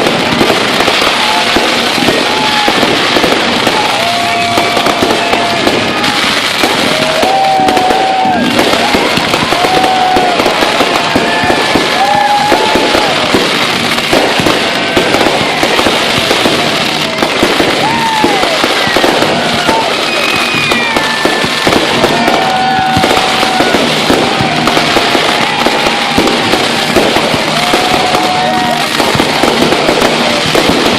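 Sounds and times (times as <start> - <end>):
fireworks bangs and crackles: 0.0 - 30.9
whistling fireworks: 0.0 - 30.9.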